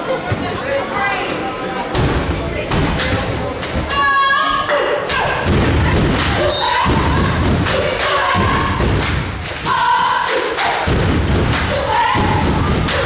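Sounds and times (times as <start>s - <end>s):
spectators shouting and cheering: 0.0s - 13.0s.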